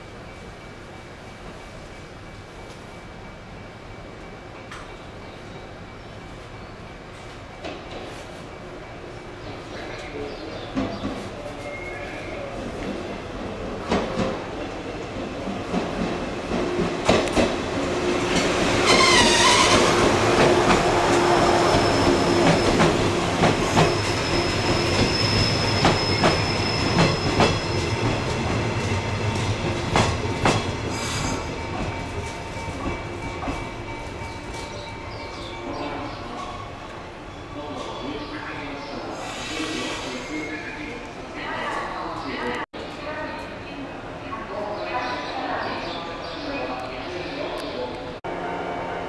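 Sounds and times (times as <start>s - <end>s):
electric train slowing to a stop: 0.0s - 41.0s.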